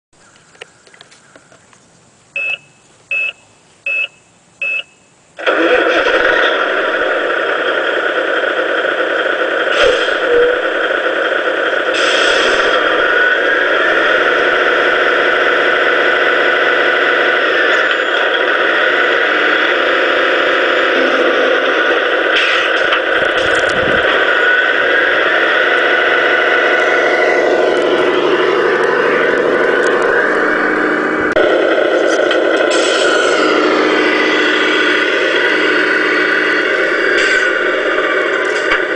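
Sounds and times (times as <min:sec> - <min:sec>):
simulated diesel engine running: 0:00.2 - 0:38.9.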